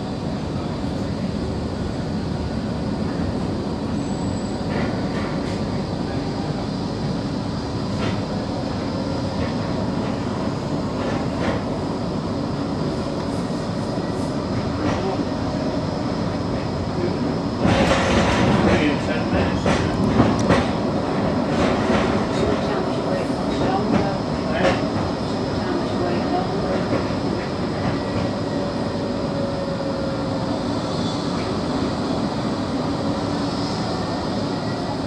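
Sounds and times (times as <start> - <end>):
tram wheels on rails: 0.0 - 35.0.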